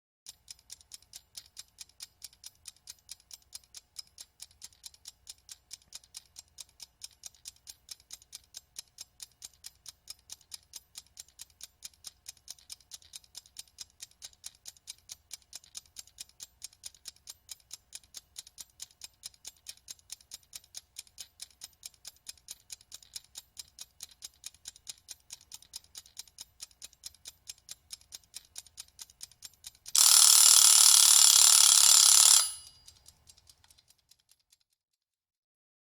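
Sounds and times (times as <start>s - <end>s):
kitchen timer ticking: 0.3s - 34.7s.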